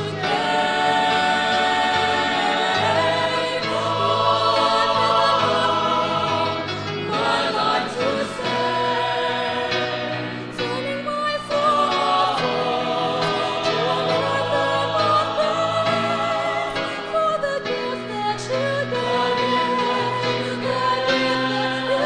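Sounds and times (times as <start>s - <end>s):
choir singing gospel song: 0.0s - 22.0s.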